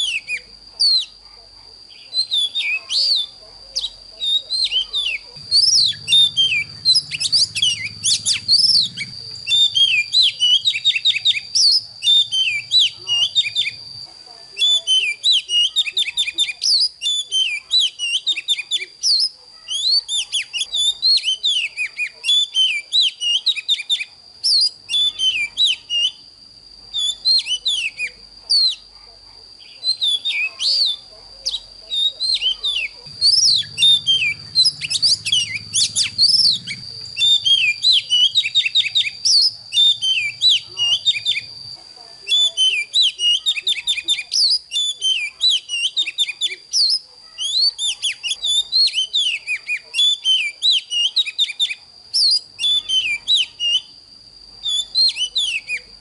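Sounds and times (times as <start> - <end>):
bird singing whistled notes: 0.0 - 1.2, 1.9 - 28.9, 29.6 - 41.6, 42.2 - 54.0, 54.6 - 56.0.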